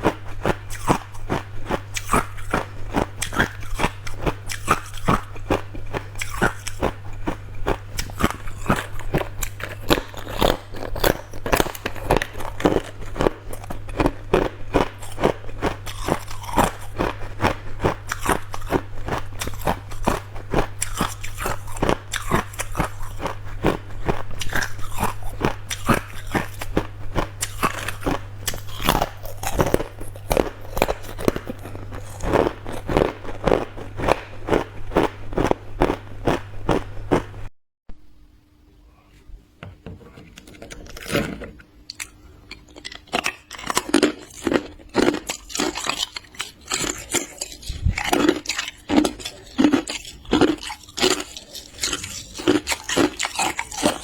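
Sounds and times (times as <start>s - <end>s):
ice crunching between teeth: 0.0s - 37.4s, 40.7s - 54.0s.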